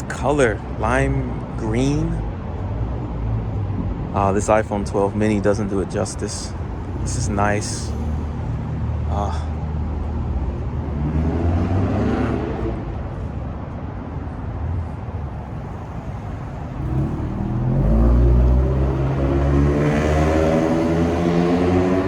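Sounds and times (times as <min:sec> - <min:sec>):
car engines running: 0:00.0 - 0:22.0
car accelerating: 0:02.9 - 0:13.5, 0:14.8 - 0:22.0.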